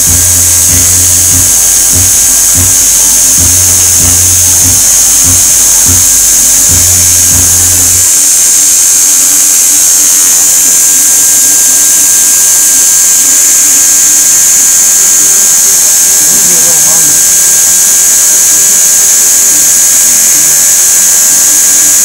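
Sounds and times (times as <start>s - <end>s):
loud steady hiss: 0.0s - 22.0s
tattoo machine buzzing: 0.0s - 22.0s.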